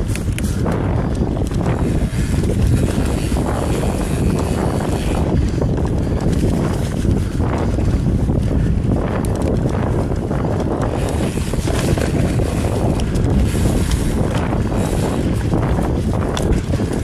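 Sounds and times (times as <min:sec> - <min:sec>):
bike clicks and rattles: 0:00.0 - 0:17.0
bike tyres crunching on dirt: 0:00.0 - 0:17.0
wind buffeting microphone: 0:00.0 - 0:17.0.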